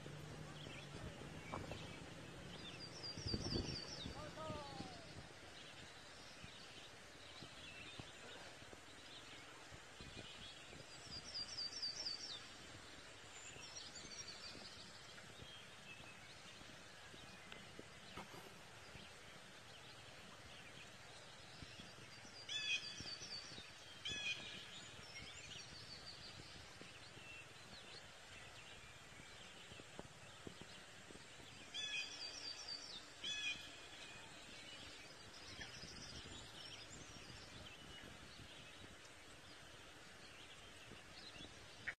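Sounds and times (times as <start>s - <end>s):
steady low hiss: 0.0s - 42.0s
birds chirping: 0.1s - 42.0s.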